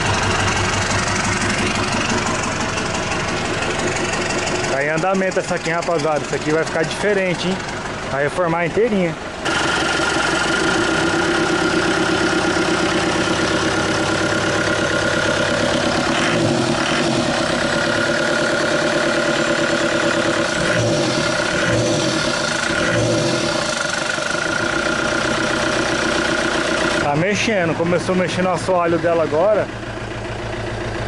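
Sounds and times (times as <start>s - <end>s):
turbocharged engine idling: 0.0s - 31.0s.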